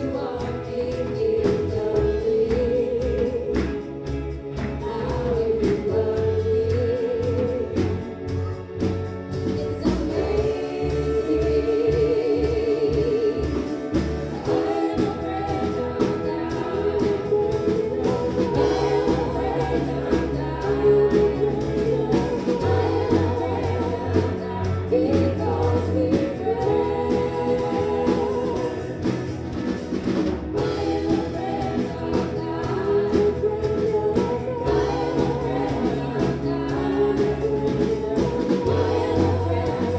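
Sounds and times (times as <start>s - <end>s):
bass line and beat: 0.0s - 39.9s
gospel singing with voices: 0.0s - 39.9s.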